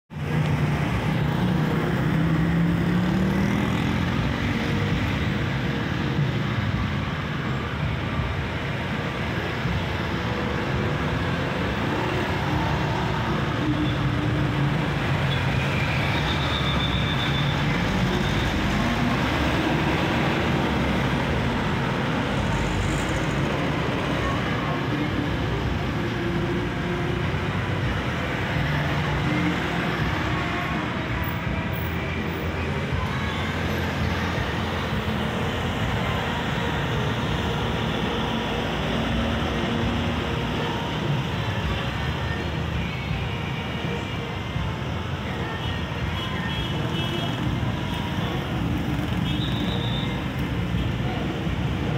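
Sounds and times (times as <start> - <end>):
road traffic noise: 0.1 - 51.9.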